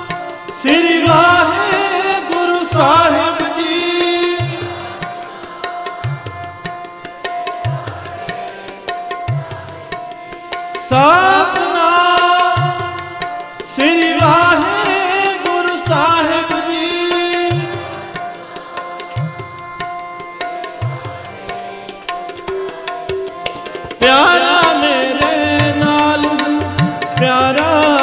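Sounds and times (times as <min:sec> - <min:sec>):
harmonium melody: 0:00.0 - 0:28.0
tabla strokes: 0:00.0 - 0:28.0.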